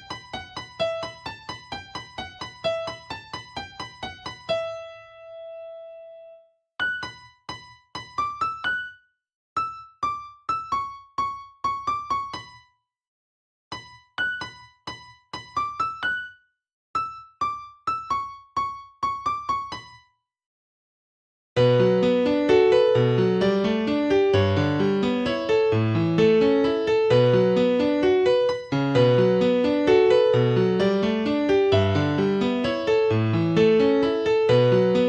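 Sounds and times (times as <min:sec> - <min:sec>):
solo keyboard melody: 0:00.1 - 0:12.7, 0:13.7 - 0:16.4, 0:17.0 - 0:20.1, 0:21.6 - 0:35.0.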